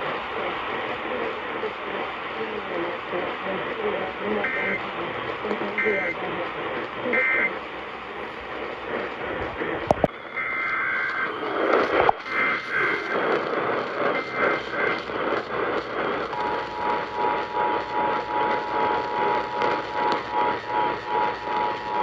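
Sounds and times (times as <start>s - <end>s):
heavy radio static: 0.0s - 22.0s.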